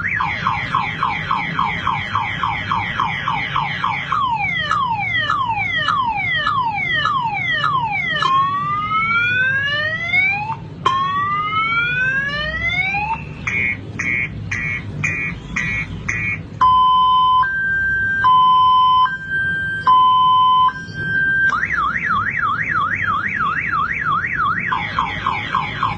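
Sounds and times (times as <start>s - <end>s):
car alarm siren: 0.0s - 25.9s.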